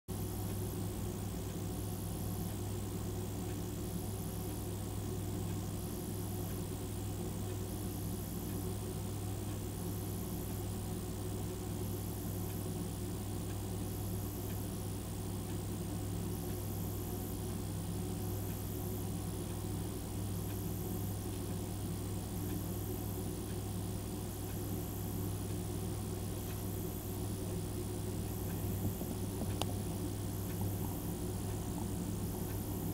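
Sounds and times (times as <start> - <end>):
steady low hum: 0.1 - 32.9.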